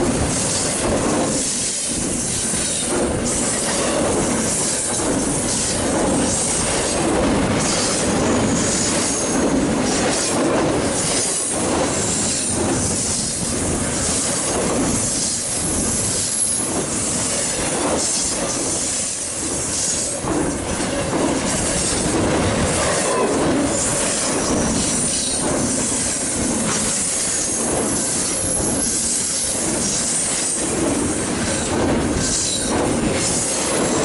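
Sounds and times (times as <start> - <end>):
train wheels clattering: 0.0 - 34.0.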